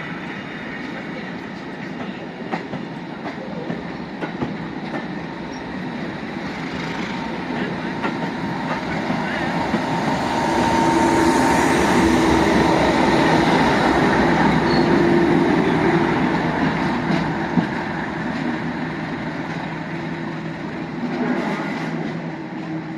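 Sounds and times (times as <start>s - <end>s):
diesel locomotive engine drone: 0.0s - 22.9s.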